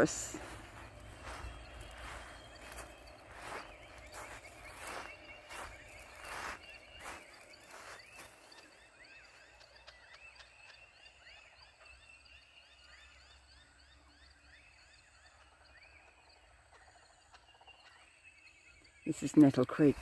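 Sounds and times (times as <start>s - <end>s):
dawn chorus of birds: 0.0s - 20.0s.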